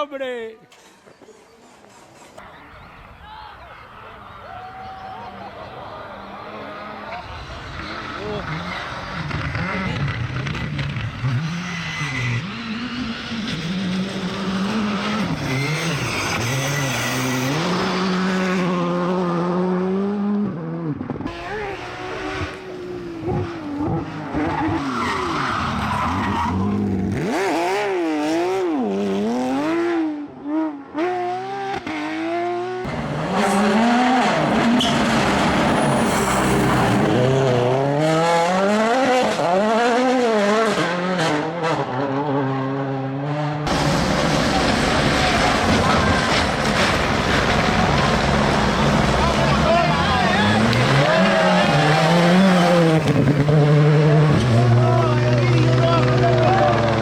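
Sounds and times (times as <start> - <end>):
tyres skidding: 4.4 - 19.9, 21.0 - 30.0, 31.2 - 41.9, 43.7 - 57.0
rally car engines revving: 5.2 - 57.0.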